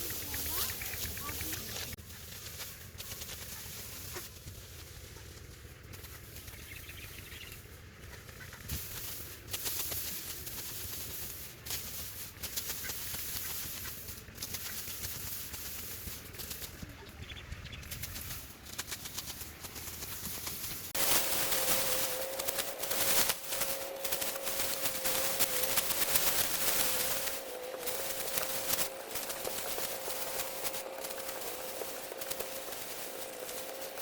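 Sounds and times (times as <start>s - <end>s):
dry stalks rustling and crackling: 0.0s - 34.0s.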